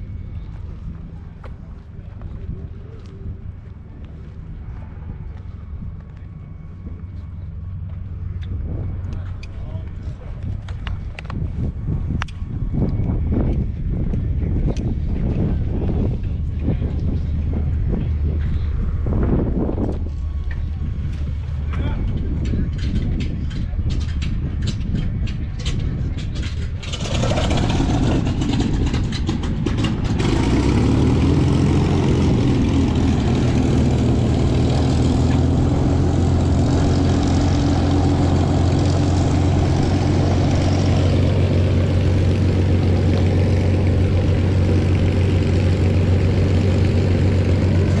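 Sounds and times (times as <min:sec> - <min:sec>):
heavy engine droning: 0:00.0 - 0:48.0.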